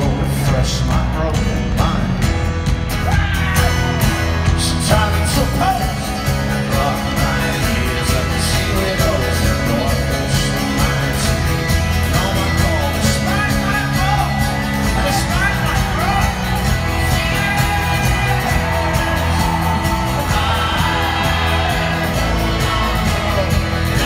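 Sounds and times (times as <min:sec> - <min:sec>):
acoustic guitar: 0:00.0 - 0:24.0
double bass: 0:00.0 - 0:24.0
drums: 0:00.0 - 0:24.0.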